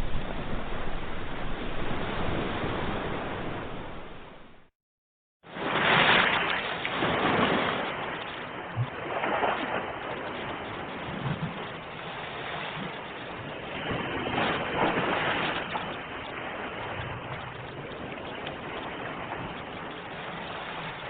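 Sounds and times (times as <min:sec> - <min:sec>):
ocean waves washing ashore: 0:00.0 - 0:04.7, 0:05.4 - 0:21.0.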